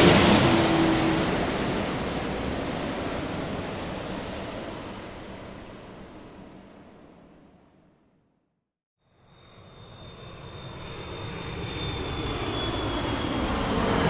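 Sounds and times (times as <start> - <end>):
airplane engine noise: 0.0 - 7.7, 9.3 - 14.0.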